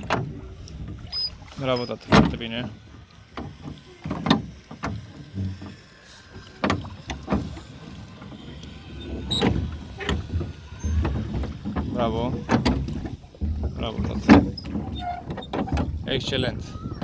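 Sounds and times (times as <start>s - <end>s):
oars knocking and splashing: 0.0s - 17.0s.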